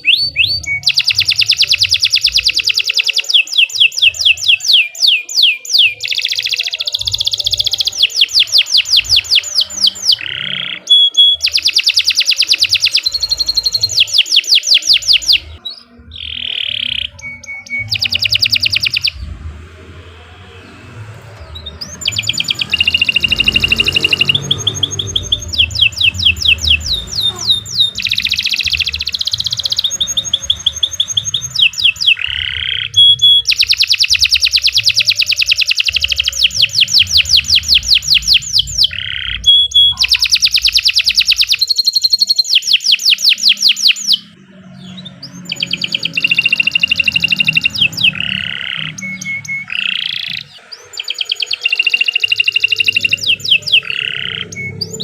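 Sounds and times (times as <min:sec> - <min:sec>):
canary singing rolling trills: 0:00.0 - 0:55.0.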